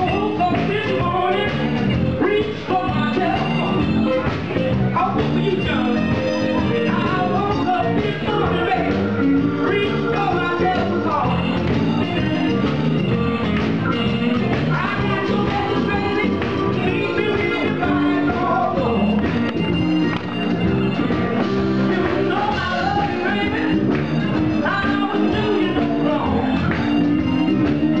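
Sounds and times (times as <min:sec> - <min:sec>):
woman singing into microphone: 0:00.0 - 0:19.4, 0:21.1 - 0:26.7
drums: 0:00.0 - 0:28.0
electric guitar: 0:00.0 - 0:28.0
keyboard: 0:00.0 - 0:28.0.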